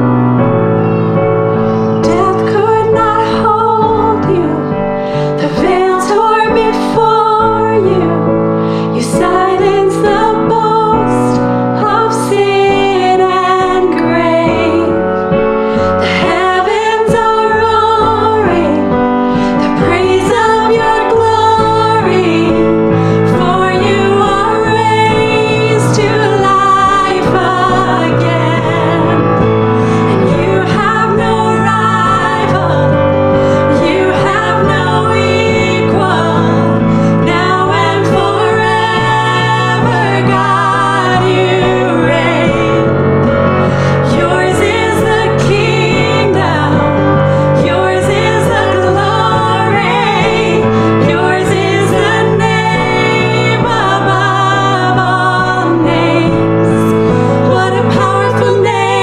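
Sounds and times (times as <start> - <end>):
digital piano chords: 0.0 - 59.0
women singing worship song: 1.7 - 59.0.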